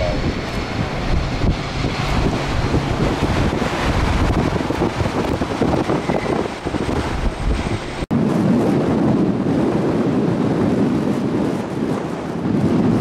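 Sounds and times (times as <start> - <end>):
gusting wind on microphone: 0.0 - 13.0
steady rushing noise: 0.0 - 13.0.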